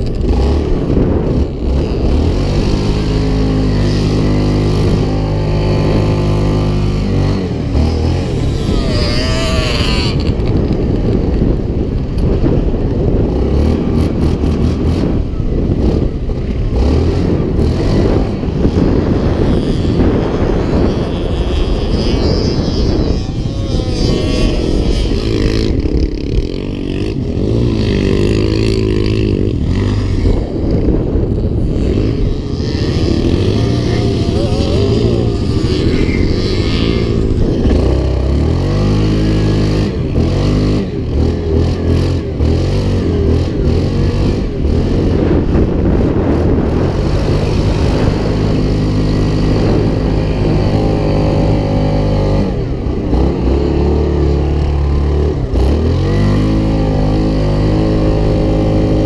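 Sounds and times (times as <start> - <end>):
off-road vehicle engines revving: 0.0 - 59.0.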